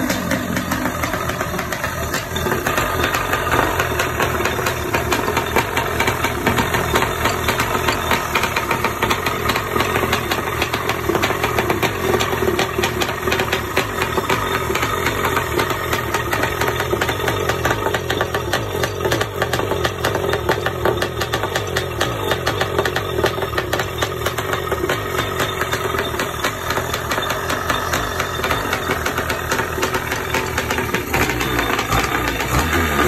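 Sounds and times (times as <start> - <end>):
two-stroke engine running: 0.0 - 33.0.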